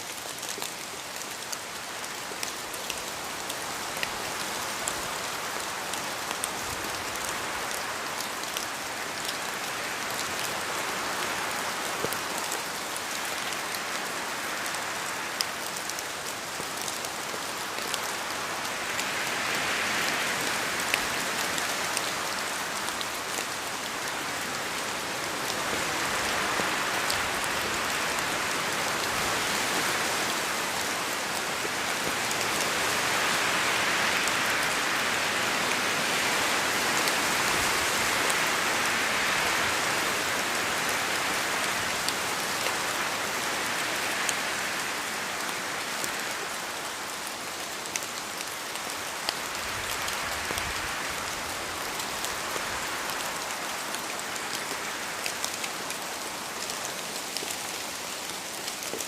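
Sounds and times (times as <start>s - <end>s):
steady rain: 0.0s - 59.0s
wind through wet trees: 0.0s - 59.0s.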